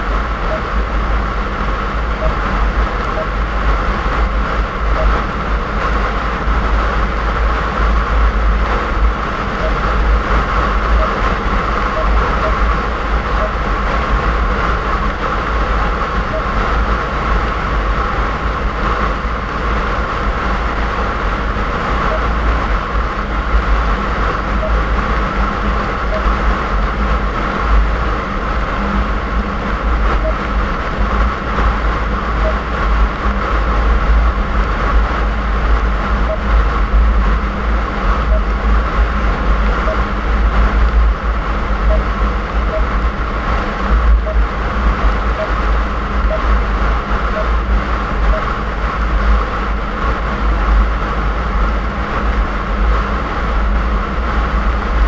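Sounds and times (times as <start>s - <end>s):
engine and road rumble inside car: 0.0s - 55.0s.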